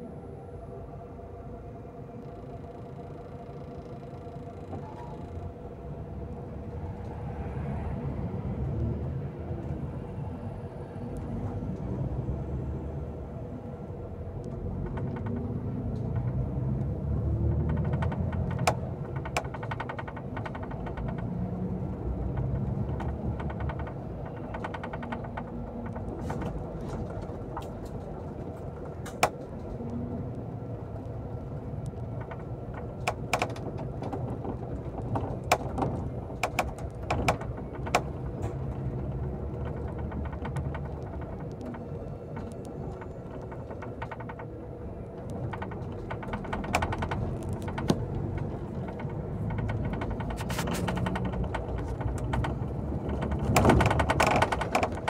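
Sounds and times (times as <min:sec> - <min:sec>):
engine and road rumble: 0:00.0 - 0:55.0.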